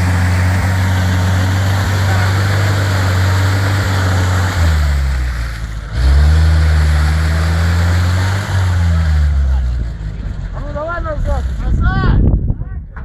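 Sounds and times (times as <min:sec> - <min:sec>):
off-road vehicle engine revving: 0:00.0 - 0:11.9.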